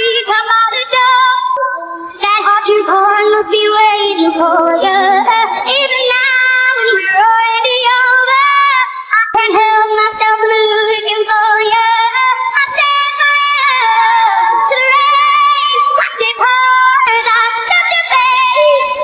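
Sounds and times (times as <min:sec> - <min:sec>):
woman singing solo: 0:00.0 - 0:07.5, 0:09.9 - 0:19.0.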